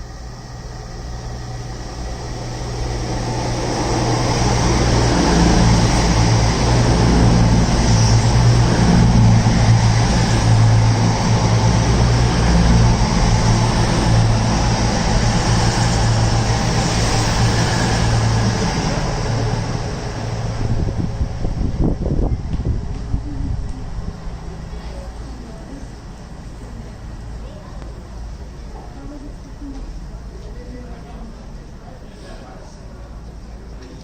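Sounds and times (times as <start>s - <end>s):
wheels rumbling on rails: 0.0s - 31.5s
passenger train passing: 0.0s - 34.0s.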